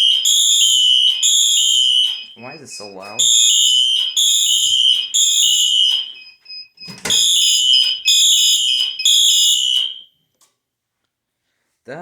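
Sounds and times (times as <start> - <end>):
fire alarm horn blasts: 0.0 - 10.2.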